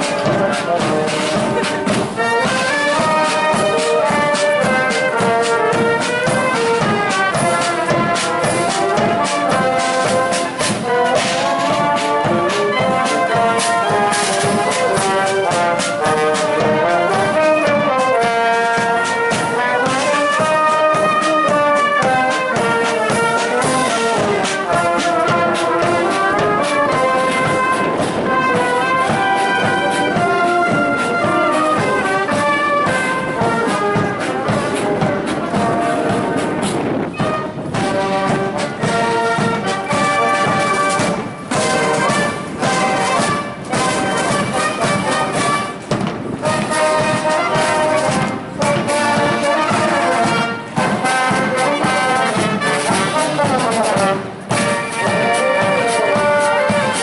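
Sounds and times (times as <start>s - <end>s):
military band playing a march: 0.0s - 57.0s
steady drum beat: 0.0s - 57.0s.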